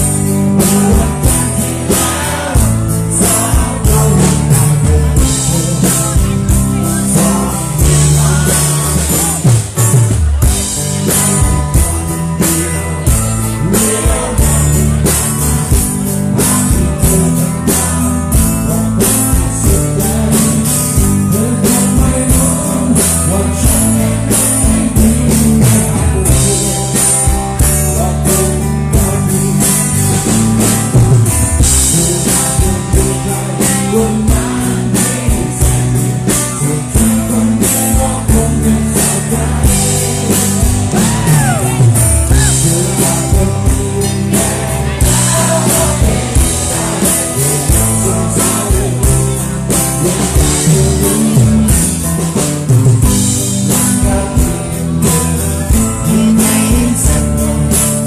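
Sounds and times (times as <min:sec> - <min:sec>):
drum kit: 0:00.0 - 0:58.0
electric guitars: 0:00.0 - 0:58.0
person singing: 0:00.0 - 0:58.0.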